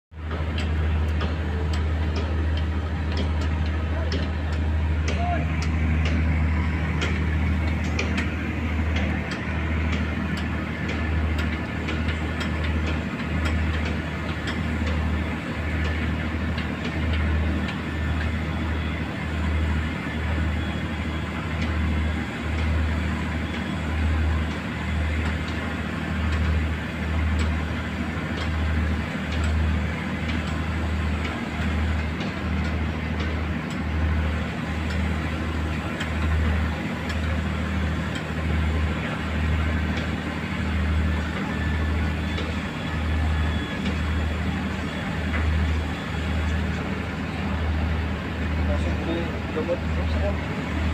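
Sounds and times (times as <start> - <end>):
boat engine low throbbing rumble: 0.1 - 50.9.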